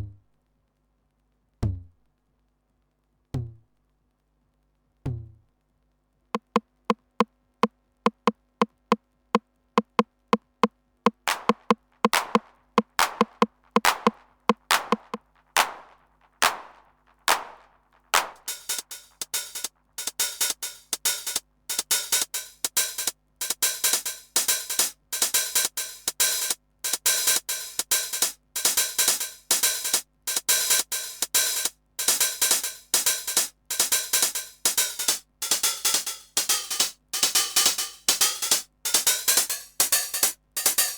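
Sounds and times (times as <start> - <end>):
drum machine rhythm: 6.4 - 7.2, 8.1 - 9.0, 9.8 - 40.9.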